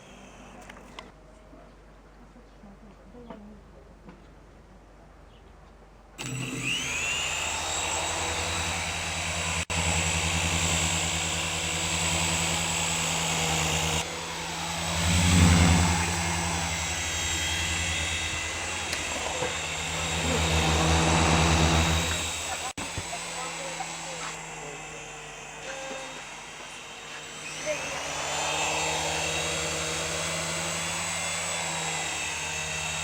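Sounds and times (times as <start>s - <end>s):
toy helicopter motors buzzing: 6.2s - 33.0s.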